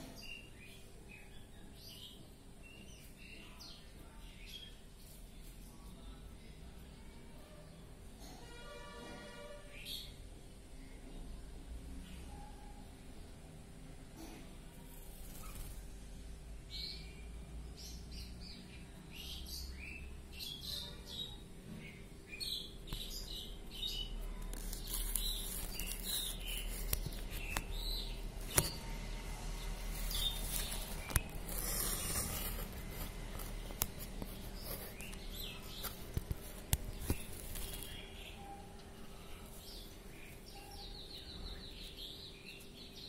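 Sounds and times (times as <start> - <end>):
birds chirping: 0.0 - 7.6, 14.1 - 43.0.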